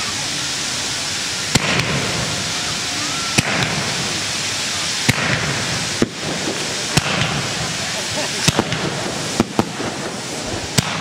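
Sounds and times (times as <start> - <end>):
fireworks hissing: 0.0 - 11.0
sharp firework cracks: 1.3 - 11.0.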